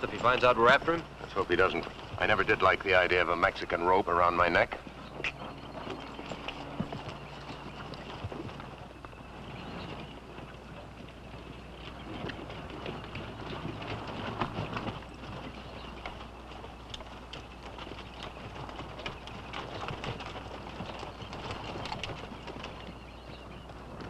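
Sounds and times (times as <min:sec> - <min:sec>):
horse hooves clopping on dirt: 0:00.0 - 0:24.0.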